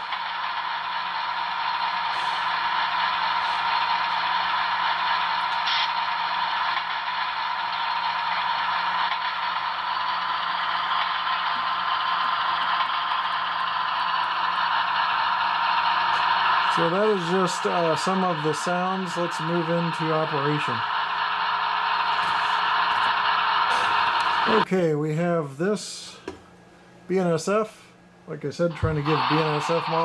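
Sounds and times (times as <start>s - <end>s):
model locomotive engine rumble: 0.0s - 24.8s, 28.4s - 30.0s.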